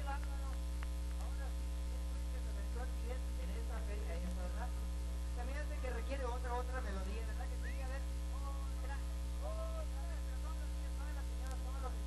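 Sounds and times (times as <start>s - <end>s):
electrical mains hum: 0.0s - 12.0s
person's voice over loudspeakers: 0.0s - 12.0s.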